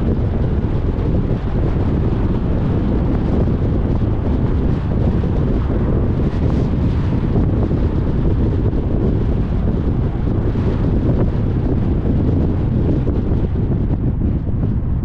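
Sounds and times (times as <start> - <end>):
car driving rumble: 0.0 - 15.0
wind buffeting microphone: 0.0 - 15.0.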